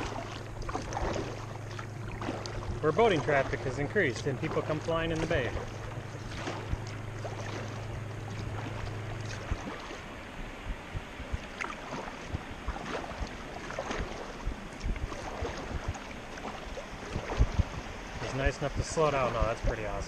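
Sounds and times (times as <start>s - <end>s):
low steady drone: 0.0s - 20.0s
paddle splashes: 0.0s - 20.0s
water knocking against hull: 0.0s - 20.0s.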